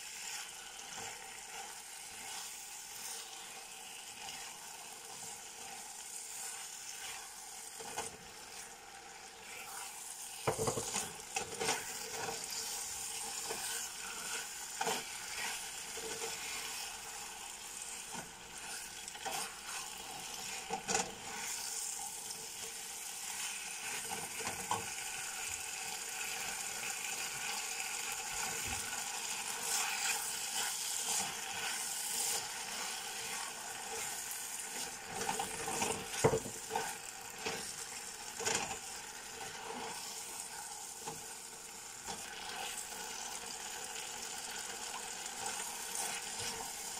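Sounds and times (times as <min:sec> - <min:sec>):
meat and vegetables sizzling: 0:00.0 - 0:46.9
spatula scraping pan: 0:00.1 - 0:08.7, 0:09.4 - 0:41.4, 0:42.0 - 0:46.9.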